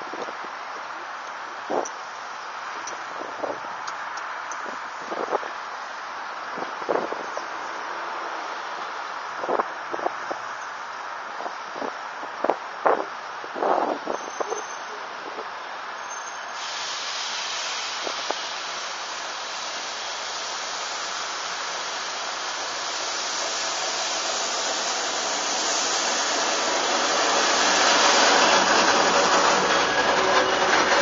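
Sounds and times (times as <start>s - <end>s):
diesel train passing: 0.0s - 11.6s, 15.6s - 31.0s.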